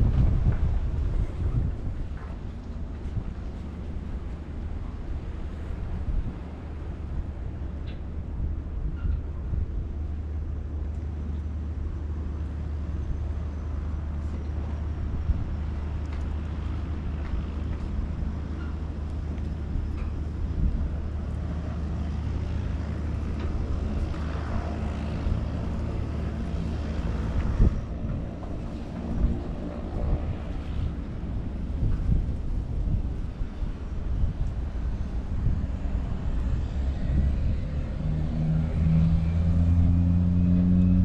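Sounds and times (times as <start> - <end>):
propeller engines droning: 0.0 - 41.0.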